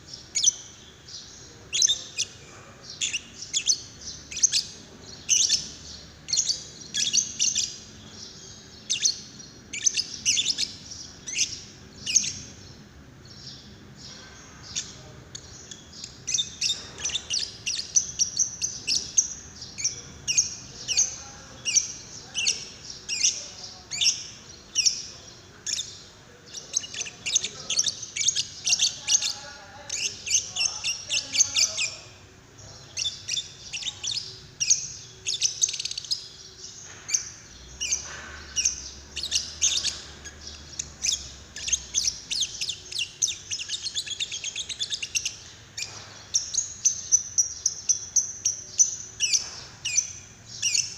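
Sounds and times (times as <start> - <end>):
lovebird chirping: 0.0 - 50.9.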